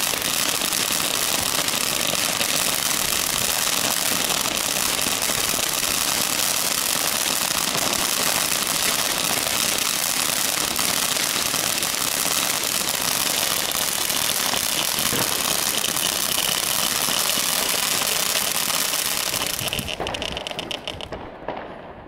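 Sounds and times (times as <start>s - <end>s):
firework fountain hissing: 0.0s - 21.2s
firework crackles: 0.0s - 22.0s.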